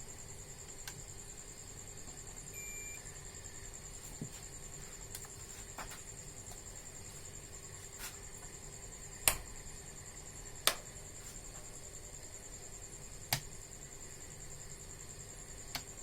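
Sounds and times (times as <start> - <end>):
faint high-pitched whine: 0.0 - 16.0.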